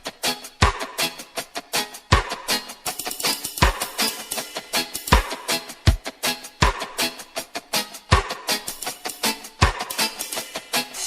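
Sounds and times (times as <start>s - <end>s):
instrumental music with drums: 0.0s - 11.0s.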